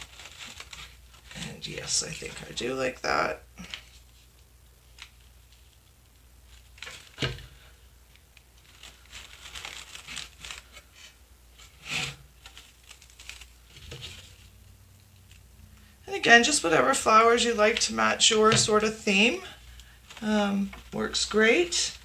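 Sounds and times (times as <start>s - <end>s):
plastic flowers rustling and crinkling: 0.0s - 22.0s.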